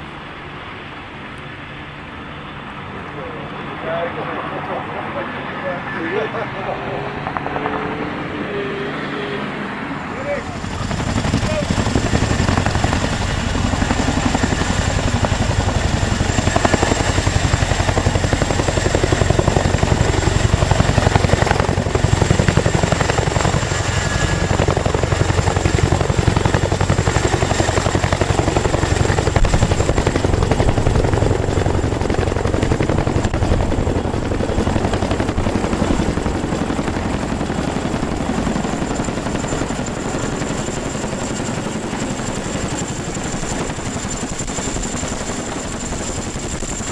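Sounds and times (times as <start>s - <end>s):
high-pitched turbine whine: 0.0s - 46.9s
helicopter rotor chop: 0.1s - 46.9s.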